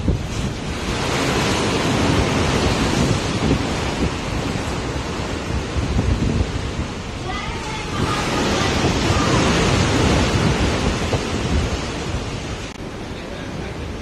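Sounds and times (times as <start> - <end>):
choppy sea water rushing: 0.0 - 14.0
wind blowing over microphone: 0.0 - 14.0.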